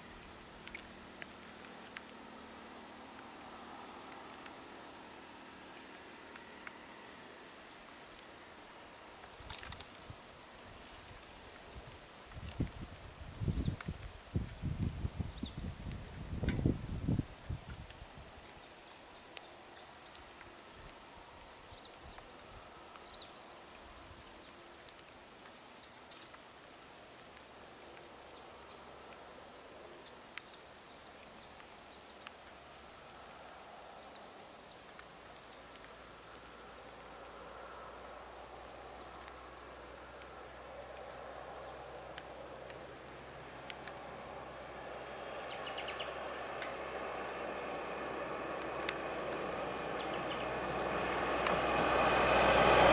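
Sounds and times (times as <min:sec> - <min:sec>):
insect chorus droning: 0:00.0 - 0:52.9.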